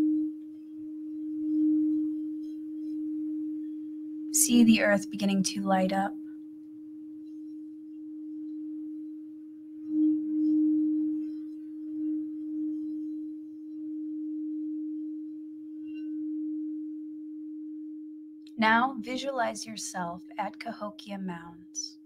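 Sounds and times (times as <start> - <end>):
singing bowl tone: 0.0 - 22.0.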